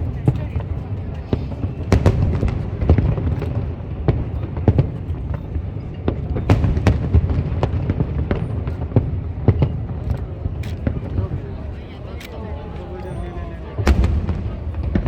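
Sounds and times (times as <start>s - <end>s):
fireworks bangs: 0.0s - 11.9s, 12.6s - 15.0s.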